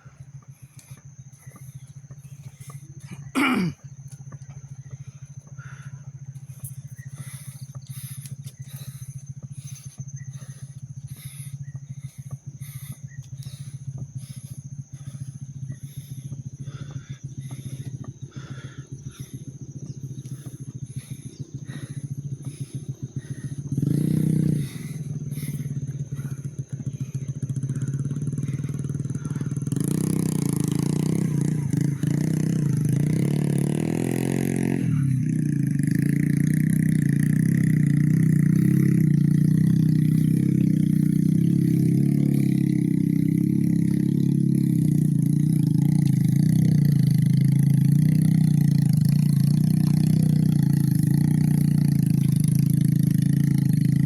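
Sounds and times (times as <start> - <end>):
engine revving under load: 4.5 - 54.0.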